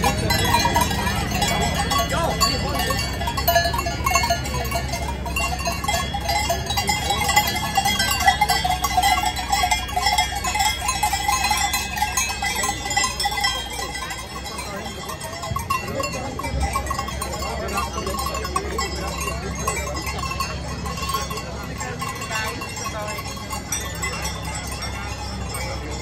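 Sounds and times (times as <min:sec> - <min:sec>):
goat bells clanking: 0:00.0 - 0:26.0.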